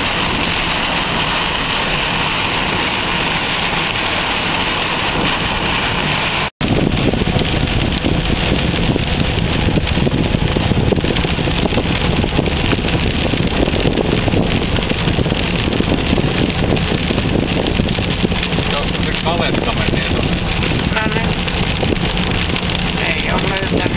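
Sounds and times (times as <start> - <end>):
road and engine noise inside car: 0.0 - 23.9.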